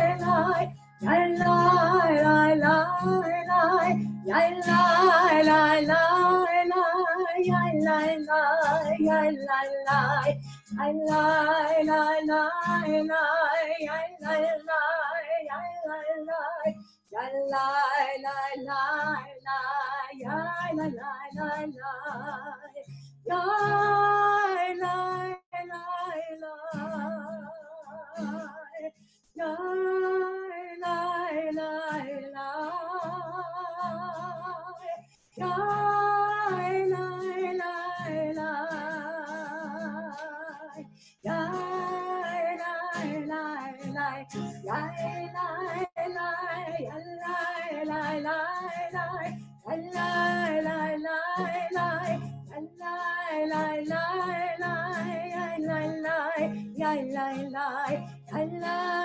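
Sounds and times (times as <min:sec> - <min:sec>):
guitar: 0:00.0 - 0:59.0
woman singing with vibrato: 0:00.0 - 0:59.0.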